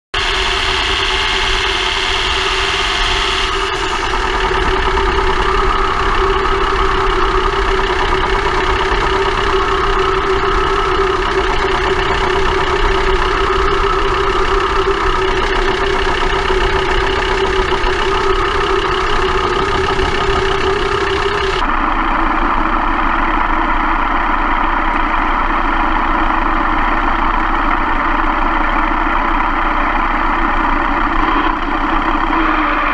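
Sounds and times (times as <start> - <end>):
van drivetrain drone: 0.1 - 32.9.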